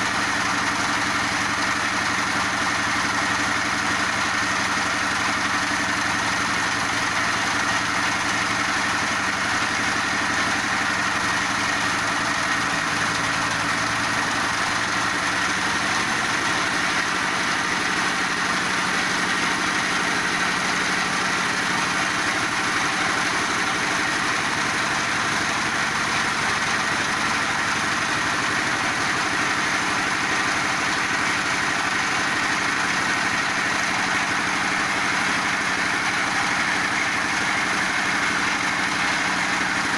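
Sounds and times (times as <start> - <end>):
pellet machine running: 0.0 - 39.9.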